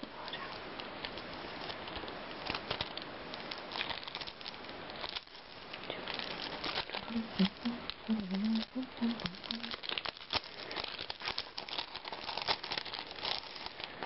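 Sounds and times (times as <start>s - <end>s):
paper and tape crackling: 0.0s - 14.0s
steady hiss: 0.0s - 14.0s.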